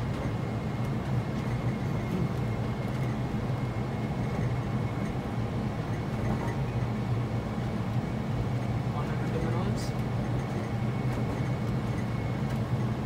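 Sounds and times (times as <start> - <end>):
low cockpit engine rumble: 0.0 - 13.0.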